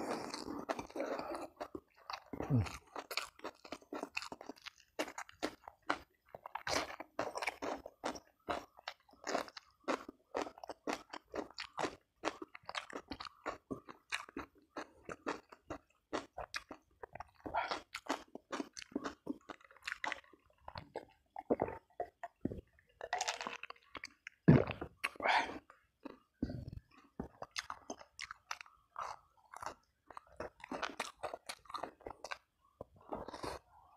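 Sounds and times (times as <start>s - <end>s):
person chewing crunchy food: 0.0s - 33.9s.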